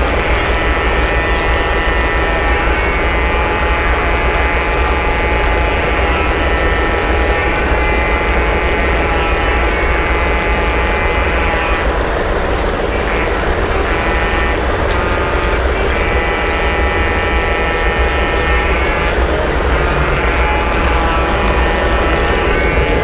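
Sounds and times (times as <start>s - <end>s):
model train motor whine: 0.0s - 23.0s
wheels rumbling on rails: 0.0s - 23.0s.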